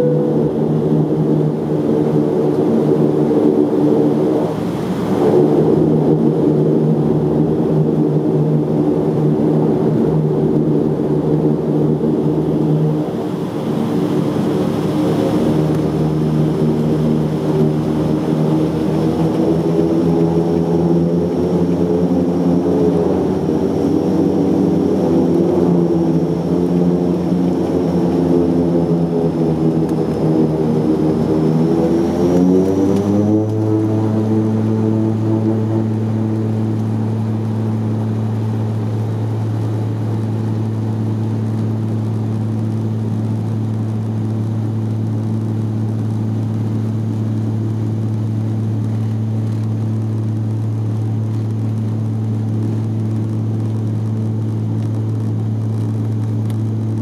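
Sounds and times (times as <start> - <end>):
high turbine whine: 0.0 - 57.0
propeller drone in aircraft cabin: 0.0 - 57.0.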